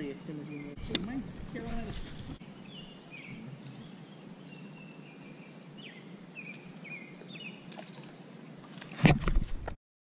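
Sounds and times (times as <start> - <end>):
birds calling: 0.0 - 8.9
faint background noise: 0.0 - 9.7.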